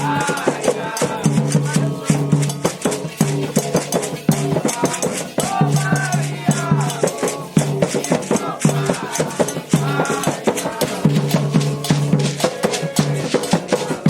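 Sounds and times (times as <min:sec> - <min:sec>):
hand drums beating: 0:00.0 - 0:14.0
shaken rattle: 0:00.0 - 0:14.0.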